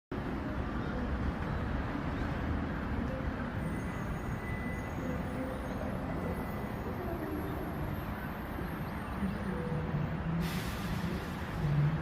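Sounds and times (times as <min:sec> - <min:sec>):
traffic rumble: 0:00.1 - 0:12.0.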